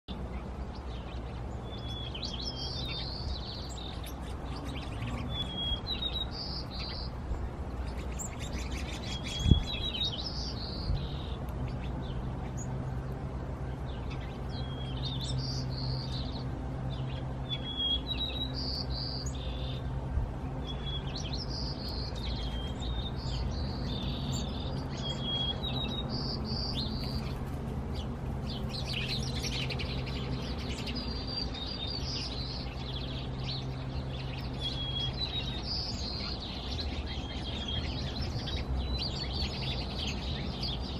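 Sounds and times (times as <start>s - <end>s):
small songbirds chirping: 0.1s - 40.9s.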